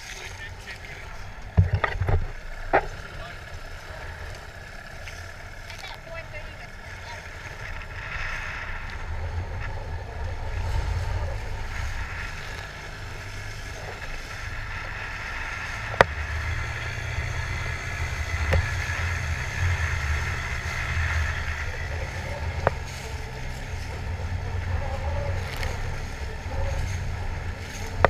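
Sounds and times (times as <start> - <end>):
outboard motor drone: 0.0 - 28.0.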